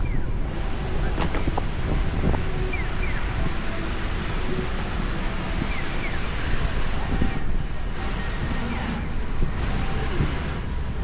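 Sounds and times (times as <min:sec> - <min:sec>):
wind rumble on microphone: 0:00.0 - 0:11.0
heavy rain: 0:00.4 - 0:11.0.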